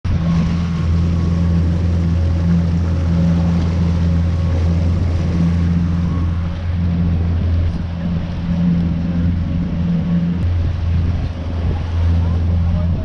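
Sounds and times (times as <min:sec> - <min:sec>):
outboard motor droning: 0:00.0 - 0:13.0
rush of boat wake: 0:00.0 - 0:13.0.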